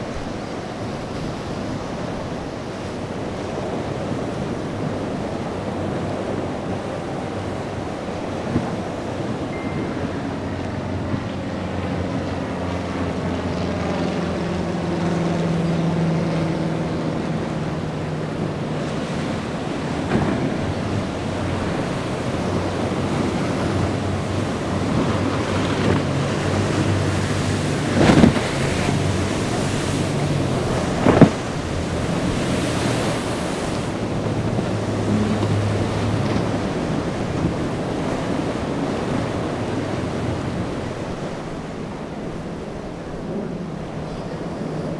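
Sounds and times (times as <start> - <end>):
boat engines droning: 0.0 - 44.9
waves breaking: 0.0 - 44.9
wind buffeting microphone: 0.0 - 44.9.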